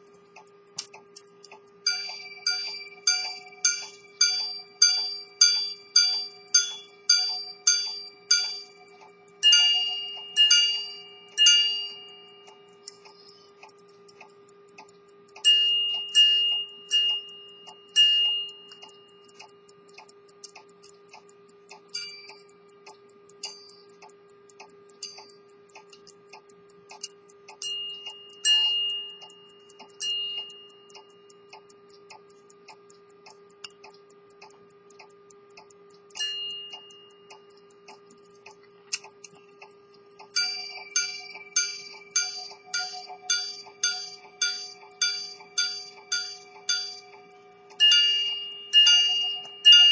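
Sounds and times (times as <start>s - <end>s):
pocket watch ticking: 0.0s - 49.9s.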